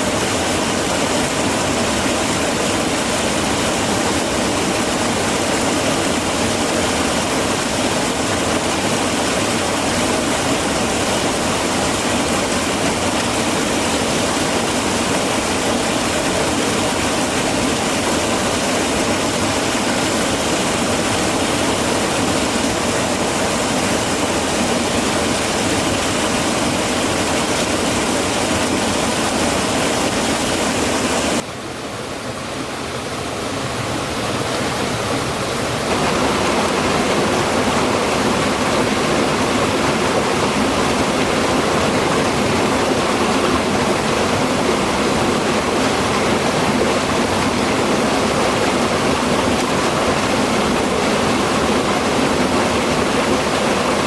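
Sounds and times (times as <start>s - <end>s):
rushing stream water: 0.0s - 54.0s.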